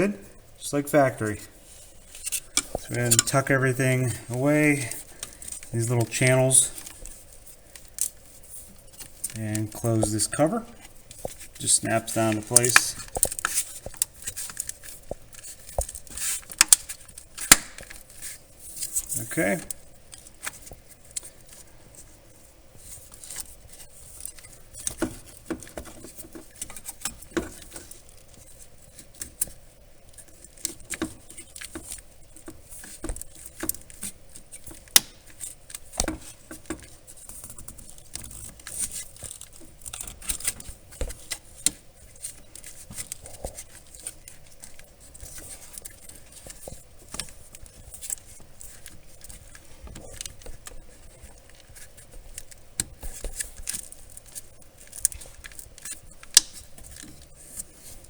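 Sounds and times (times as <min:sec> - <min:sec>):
hands handling plastic parts: 0:00.0 - 0:58.0.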